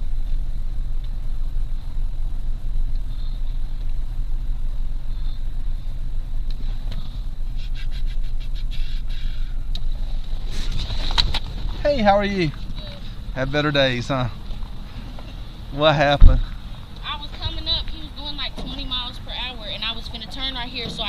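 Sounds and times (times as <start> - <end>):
car driving rumble from cabin: 0.0 - 21.0.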